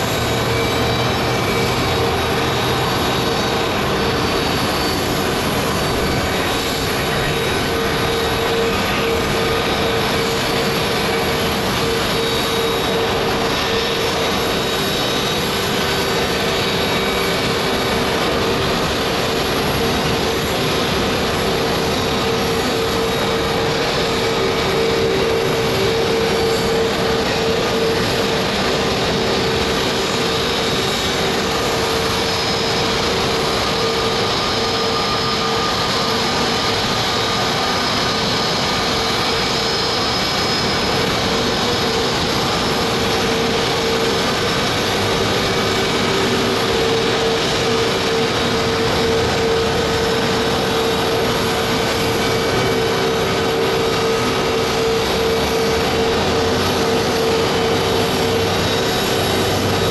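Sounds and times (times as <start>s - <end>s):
jet engine idling: 0.0s - 59.9s.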